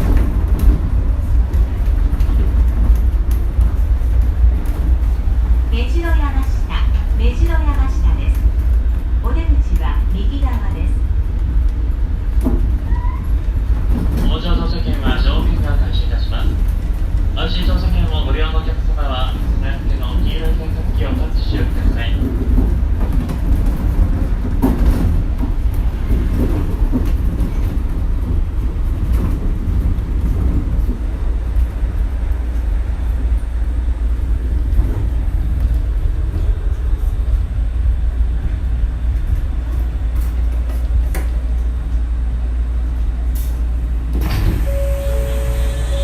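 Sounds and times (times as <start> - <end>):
monorail car rumbling: 0.0 - 46.0.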